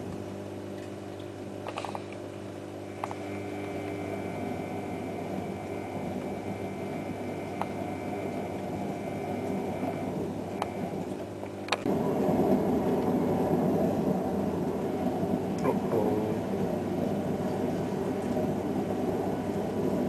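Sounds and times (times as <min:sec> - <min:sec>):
washing machine motor and drum: 0:00.0 - 0:20.0.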